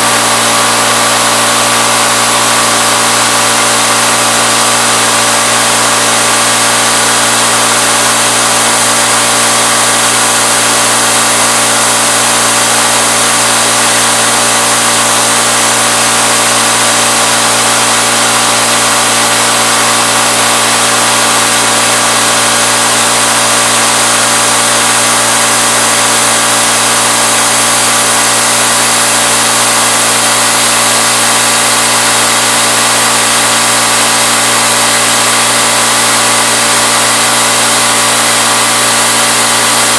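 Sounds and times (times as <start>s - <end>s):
milling machine motor hum: 0.0s - 39.9s.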